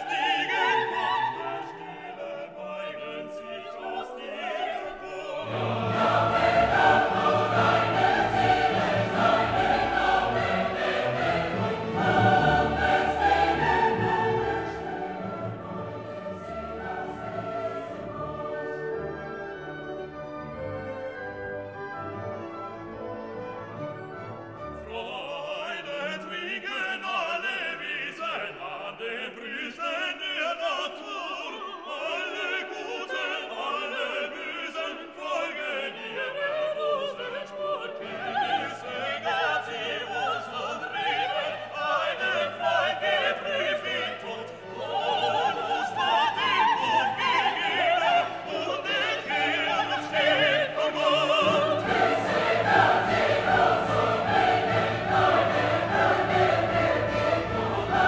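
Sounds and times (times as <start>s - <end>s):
operatic singing: 0.0s - 20.6s, 24.7s - 58.0s
orchestra: 0.0s - 58.0s.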